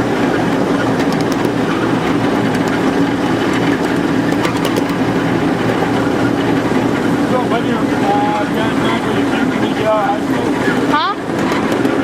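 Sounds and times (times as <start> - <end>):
miniature train engine hum: 0.0 - 12.0.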